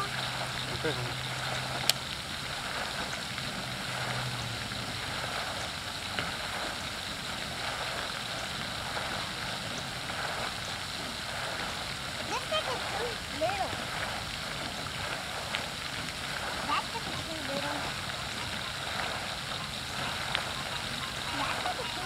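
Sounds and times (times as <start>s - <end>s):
fountain spray hissing: 0.0s - 22.0s
low hum: 0.0s - 22.0s.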